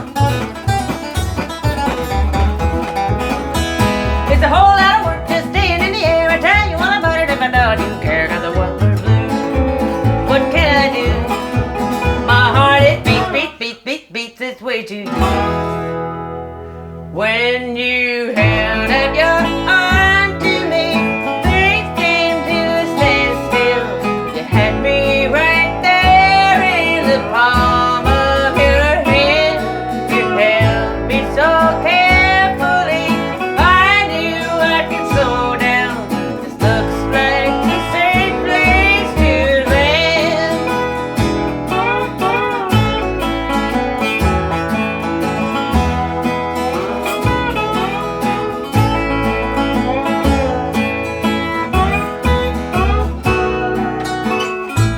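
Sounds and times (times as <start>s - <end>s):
sliding wavering lead melody: 0.0s - 13.4s, 18.4s - 54.9s
steady bass line: 0.0s - 13.4s, 15.2s - 17.4s, 18.4s - 54.9s
acoustic guitar: 0.0s - 54.9s.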